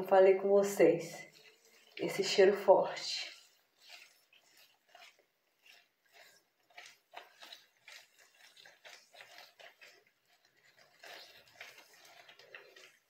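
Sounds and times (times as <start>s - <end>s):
wet rubbing and squishing of paste: 0.0s - 13.0s.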